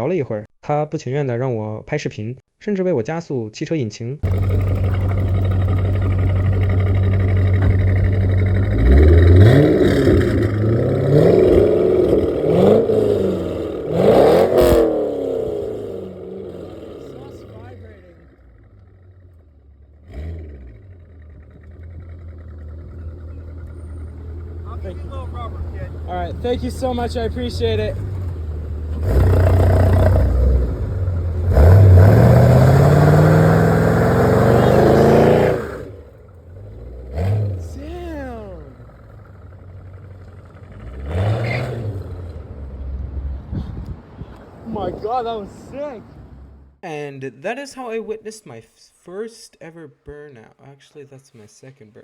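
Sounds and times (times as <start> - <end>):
car engine idling and revving: 4.2 - 46.8.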